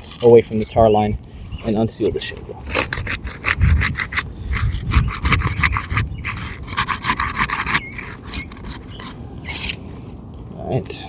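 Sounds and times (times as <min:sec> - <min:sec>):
pry bar scraping under shingles: 0:00.0 - 0:10.2.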